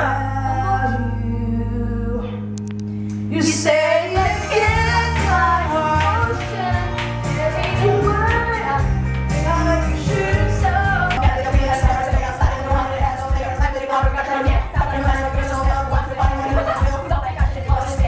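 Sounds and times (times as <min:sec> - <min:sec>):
woman singing: 0:00.0 - 0:02.5, 0:03.3 - 0:18.0
pop backing music: 0:00.0 - 0:18.0.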